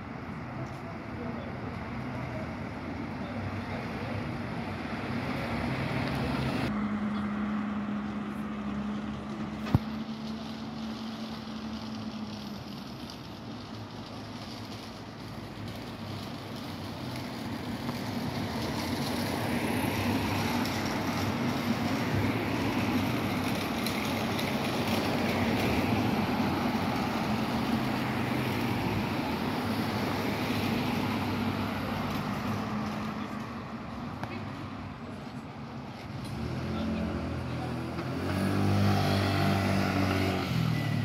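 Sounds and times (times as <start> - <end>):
cars driving past: 0.0 - 41.0.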